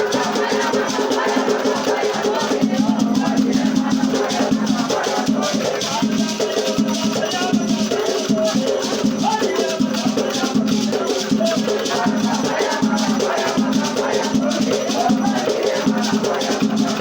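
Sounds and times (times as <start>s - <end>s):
drums beating: 0.0s - 17.0s
shaken rattle: 0.0s - 17.0s
voices chanting: 0.0s - 17.0s.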